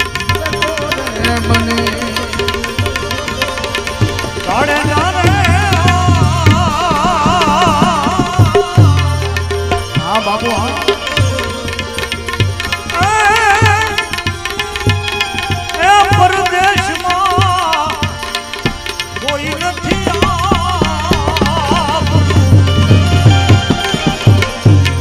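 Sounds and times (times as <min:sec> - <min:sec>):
tabla beat: 0:00.0 - 0:25.0.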